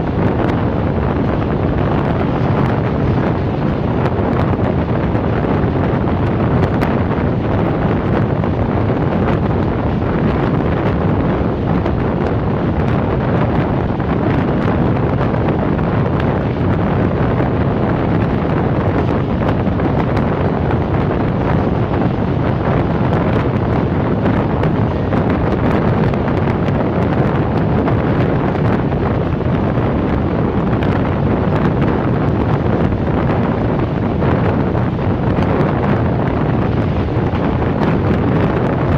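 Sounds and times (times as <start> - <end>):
train rumbling on rails: 0.0 - 38.9
wind buffeting microphone: 0.0 - 38.9.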